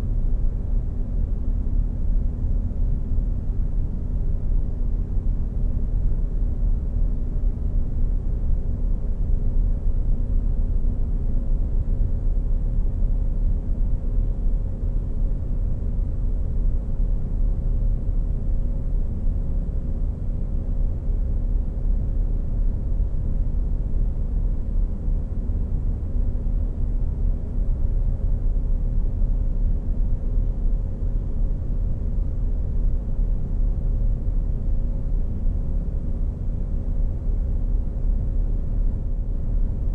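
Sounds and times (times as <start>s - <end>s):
faint even hum: 0.0s - 39.9s
steady low rumble: 0.0s - 39.9s.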